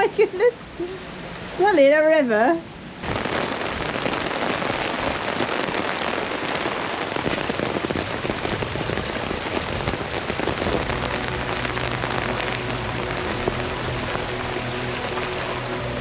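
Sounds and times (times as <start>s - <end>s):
heavy rain: 2.7s - 16.0s.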